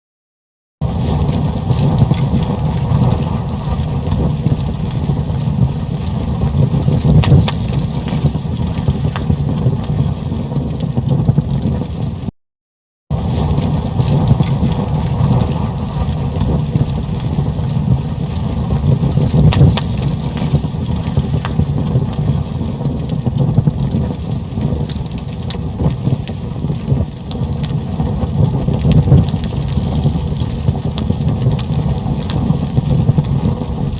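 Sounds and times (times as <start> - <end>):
fire burning with crackles: 0.8 - 12.3, 13.1 - 33.9.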